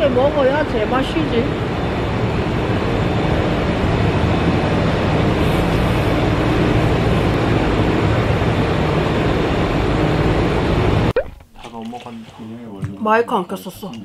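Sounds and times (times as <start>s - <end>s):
traffic rumble: 0.0s - 11.9s.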